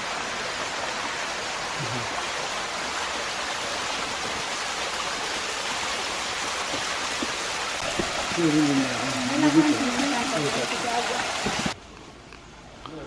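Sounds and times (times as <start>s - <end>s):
waterfall splashing: 0.0s - 11.8s.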